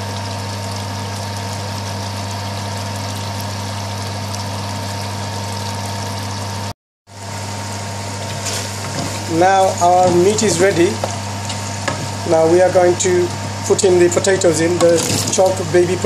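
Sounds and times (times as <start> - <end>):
steady motor hum with hiss: 0.0 - 16.0.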